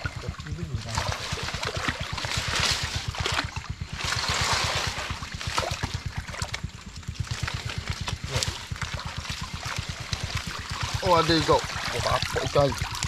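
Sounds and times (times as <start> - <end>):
low throb: 0.0 - 13.0
water splashing and trickling: 0.0 - 13.0.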